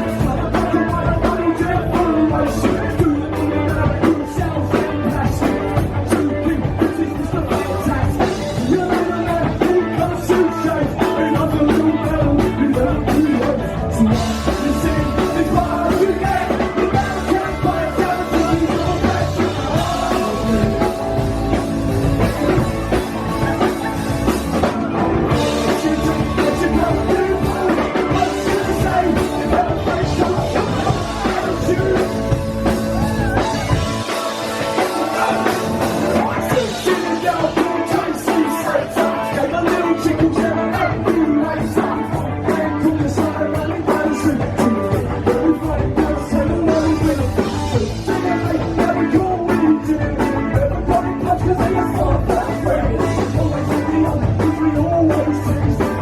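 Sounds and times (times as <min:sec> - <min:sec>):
person singing: 0:00.0 - 0:56.0
punk rock band playing: 0:00.0 - 0:56.0.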